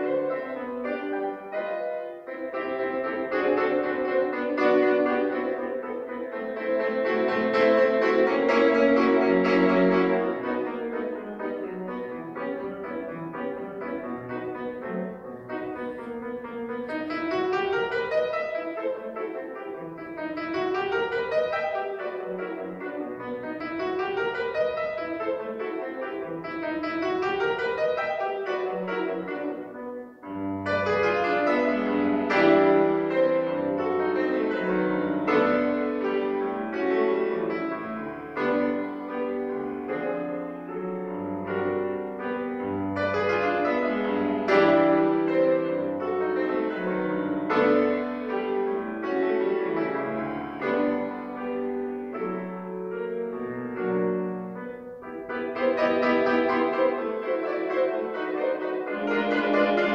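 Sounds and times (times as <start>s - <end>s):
classical solo piano: 0.0s - 59.9s.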